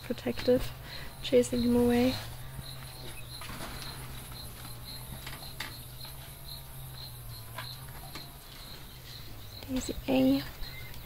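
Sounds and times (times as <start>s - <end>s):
cricket chirping: 0.0s - 11.0s
low steady hum: 0.0s - 11.0s.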